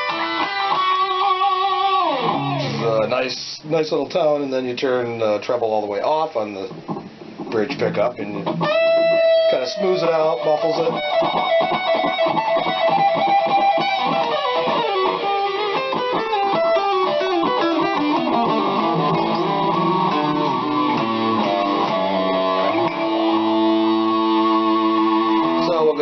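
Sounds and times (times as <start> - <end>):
muffled distorted electric guitar: 0.0 - 26.0.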